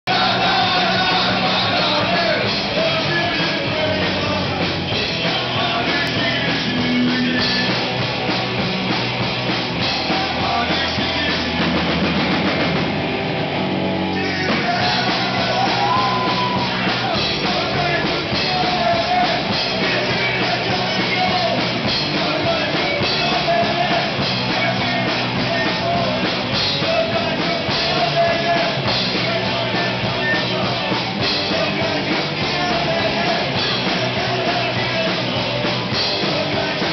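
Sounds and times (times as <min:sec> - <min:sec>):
loud rock music with drums: 0:00.0 - 0:36.9.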